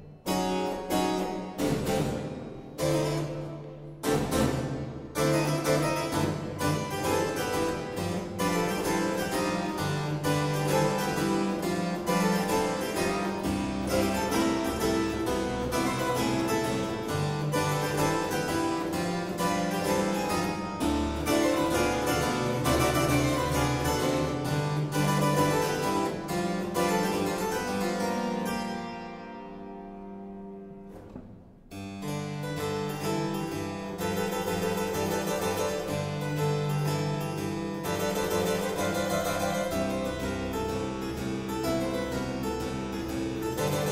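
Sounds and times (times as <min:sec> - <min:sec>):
harpsichord playing boogie-woogie: 0:00.0 - 0:30.8, 0:31.8 - 0:43.9.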